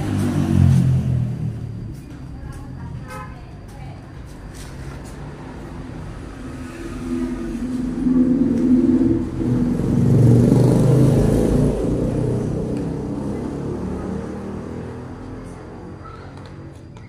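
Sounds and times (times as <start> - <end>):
vehicle engine passing by: 0.0 - 2.4, 4.5 - 16.7.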